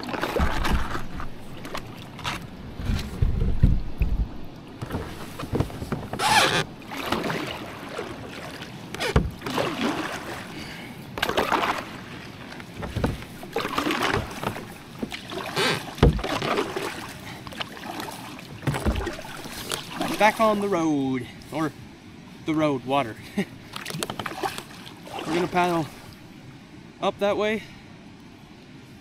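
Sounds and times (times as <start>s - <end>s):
kayak paddle splashing: 0.0s - 21.0s, 23.3s - 26.3s.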